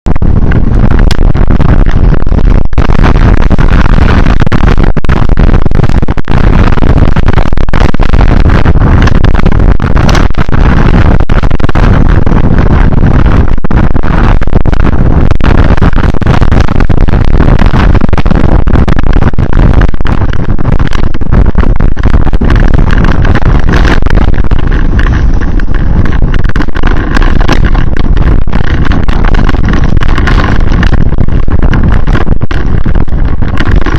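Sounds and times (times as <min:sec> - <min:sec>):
vehicle wind and road noise: 0:00.0 - 0:33.9.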